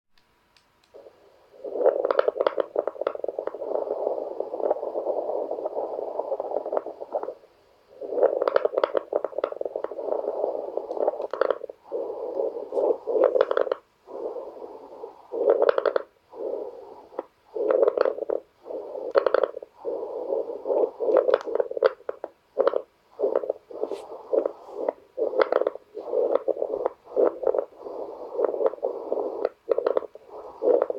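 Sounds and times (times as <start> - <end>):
breathing with fine crackles: 0.9 - 30.9.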